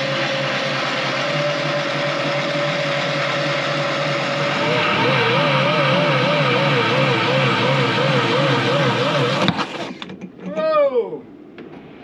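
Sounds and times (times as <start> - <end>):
machine whining: 0.0 - 10.3.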